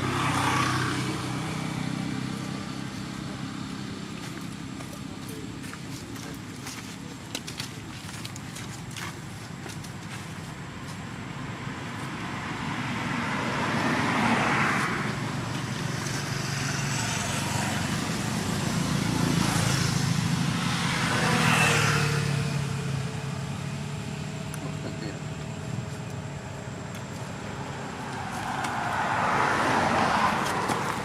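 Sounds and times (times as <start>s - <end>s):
motor vehicles passing: 0.0s - 31.0s
steady low traffic hum: 0.0s - 31.0s.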